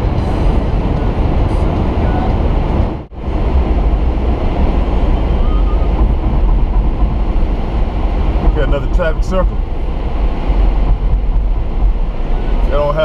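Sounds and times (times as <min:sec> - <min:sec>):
car cabin road and wind noise: 0:00.0 - 0:13.0.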